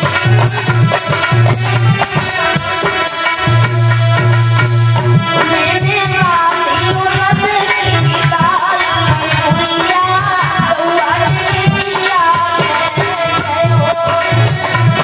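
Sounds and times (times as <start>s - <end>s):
hand drum beat: 0.0s - 15.0s
harmonium held notes: 0.0s - 15.0s
woman singing devotional song: 0.0s - 15.0s.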